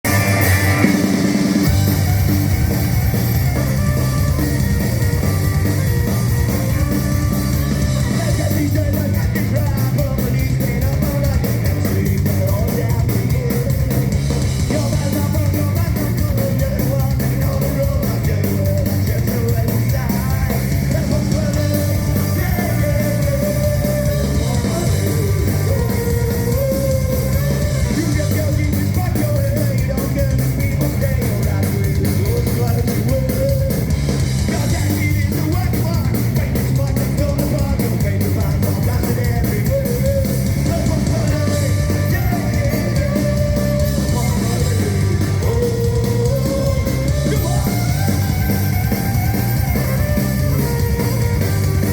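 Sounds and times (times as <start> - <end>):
folk-punk band playing live: 0.0 - 51.9
person singing: 1.9 - 33.9, 34.5 - 51.9.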